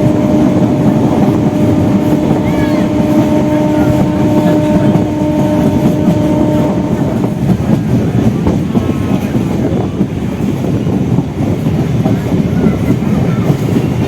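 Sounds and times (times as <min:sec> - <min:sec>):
train rumbling at speed: 0:00.0 - 0:14.0.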